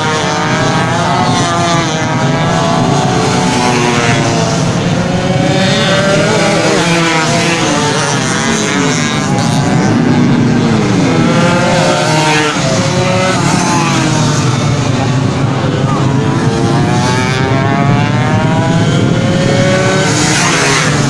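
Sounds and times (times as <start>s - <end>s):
racing motorcycles passing: 0.0s - 21.0s.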